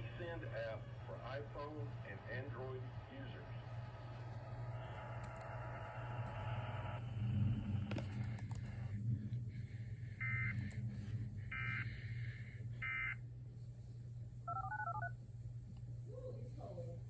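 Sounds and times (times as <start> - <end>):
low receiver hum: 0.0 - 17.0.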